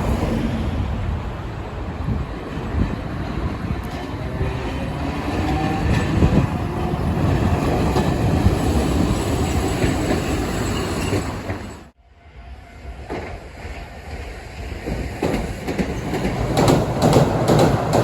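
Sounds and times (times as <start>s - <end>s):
train wheel and rail rumble: 0.0s - 18.0s.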